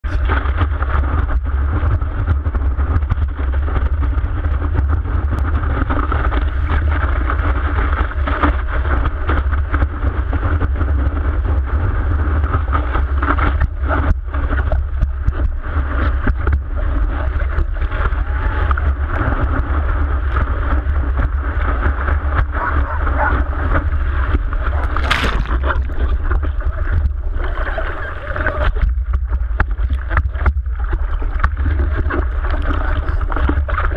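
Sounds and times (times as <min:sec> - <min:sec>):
seawater rushing and splashing: 0:00.0 - 0:33.9
wind buffeting camera: 0:00.0 - 0:33.9.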